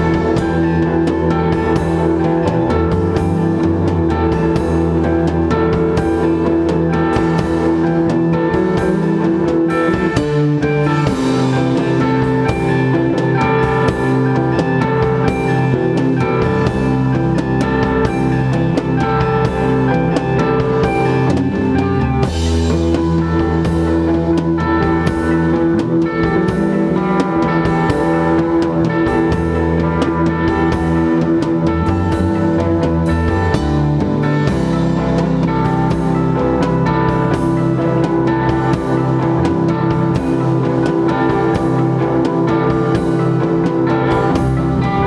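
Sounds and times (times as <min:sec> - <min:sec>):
instrumental rock band playing: 0:00.0 - 0:45.0.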